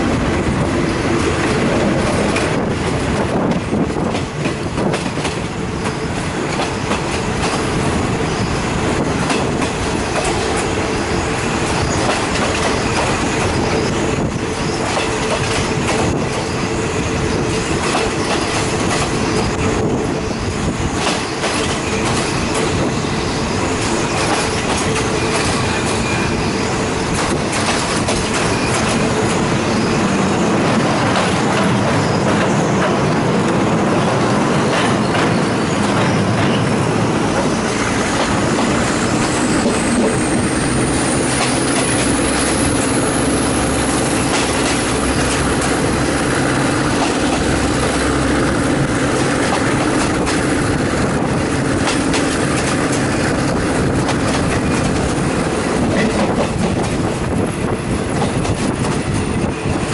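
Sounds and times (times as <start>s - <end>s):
rail joint clicks: 0.0s - 59.9s
train wheels rumbling on rails: 0.0s - 59.9s.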